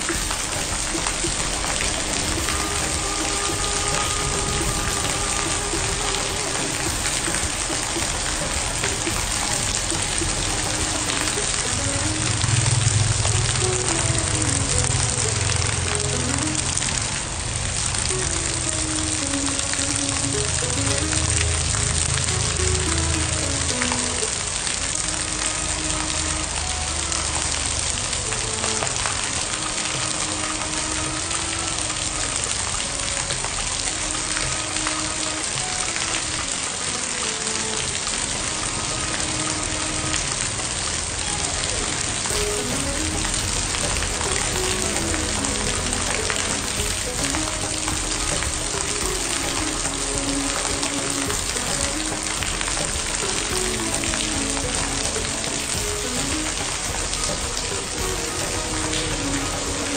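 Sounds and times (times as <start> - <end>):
heavy rain on brick paving: 0.0 - 59.9.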